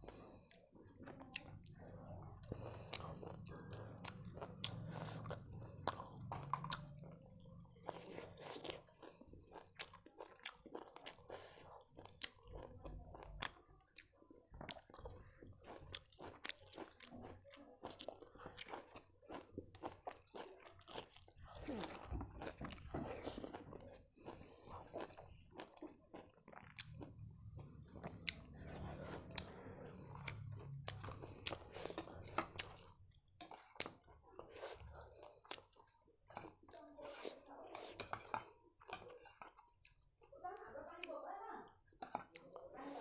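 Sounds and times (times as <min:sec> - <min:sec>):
person chewing and mouth smacking: 0:00.0 - 0:40.4, 0:41.0 - 0:43.0.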